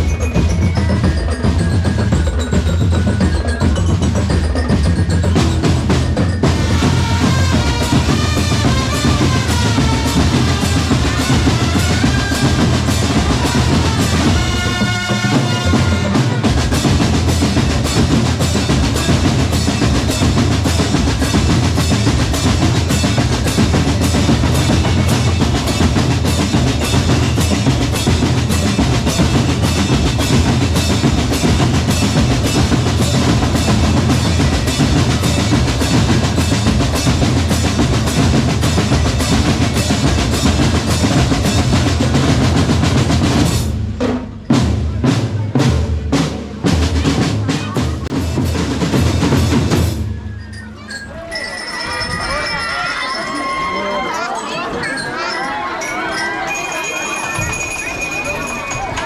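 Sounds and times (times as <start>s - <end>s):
bass and snare drums playing: 0.0s - 50.3s.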